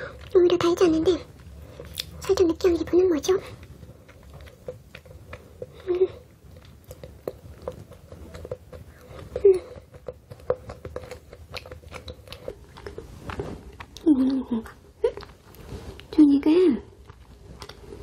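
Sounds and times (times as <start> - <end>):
close chewing with mouth clicks: 0.0 - 16.2, 16.9 - 18.0.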